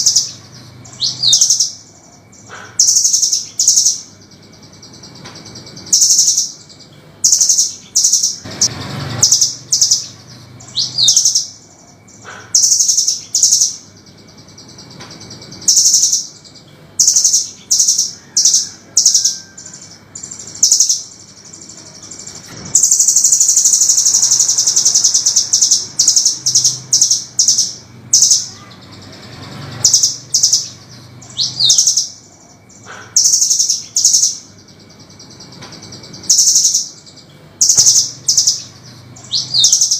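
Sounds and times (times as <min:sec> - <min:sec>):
bird calling harsh high chips: 0:00.0 - 0:39.9.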